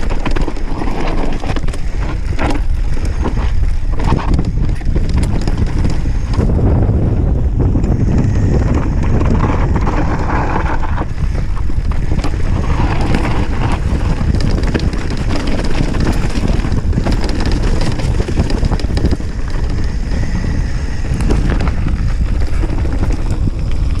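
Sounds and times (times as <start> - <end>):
bike knocks and rattles: 0.0 - 24.0
tyres on gravel trail: 0.0 - 24.0
wind on microphone: 0.0 - 24.0.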